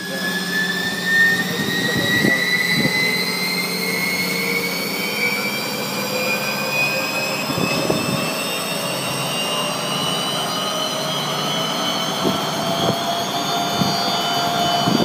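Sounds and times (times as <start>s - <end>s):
floor grinder motor whining: 0.0s - 15.0s.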